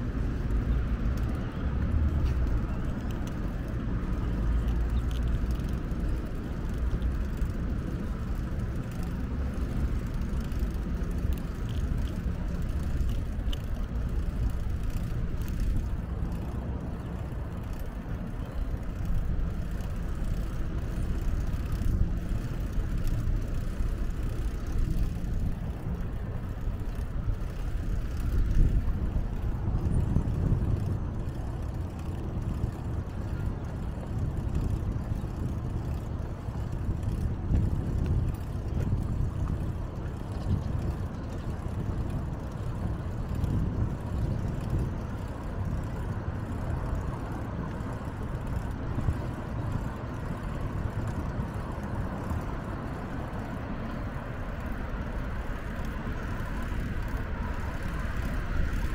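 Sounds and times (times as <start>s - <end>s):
low outdoor rumbling: 0.0s - 58.9s.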